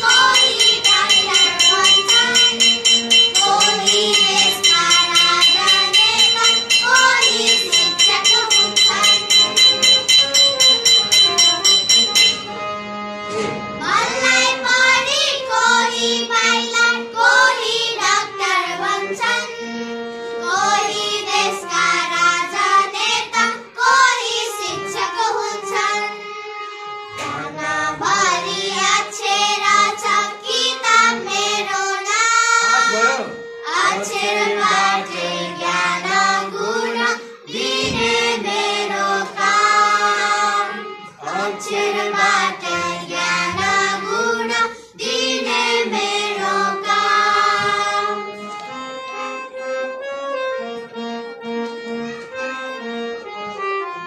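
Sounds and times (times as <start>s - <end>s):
girls singing together: 0.0s - 12.4s, 13.8s - 19.7s, 20.4s - 26.2s, 27.1s - 48.4s.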